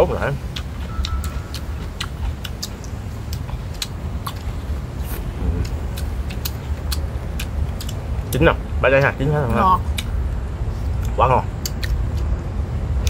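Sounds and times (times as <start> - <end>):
people chewing: 0.0 - 12.4
low steady rumble: 0.0 - 13.0.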